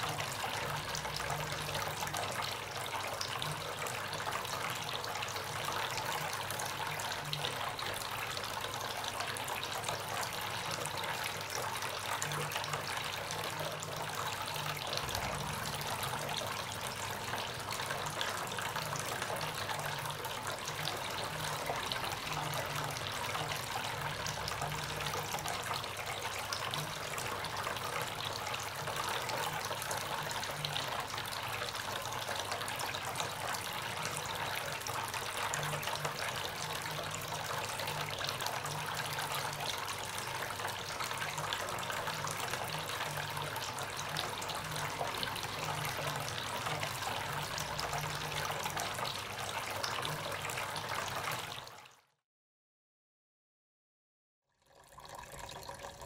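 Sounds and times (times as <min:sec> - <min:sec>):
fountain water trickling and splashing: 0:00.0 - 0:52.0, 0:54.6 - 0:56.0.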